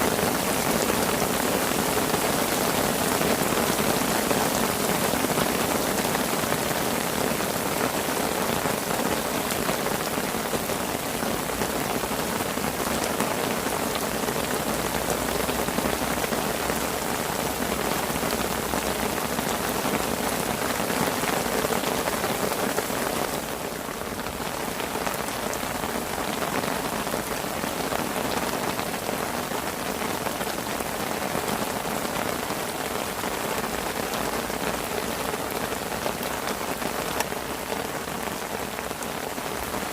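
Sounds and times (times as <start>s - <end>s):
rain pattering on a canopy: 0.0s - 39.9s.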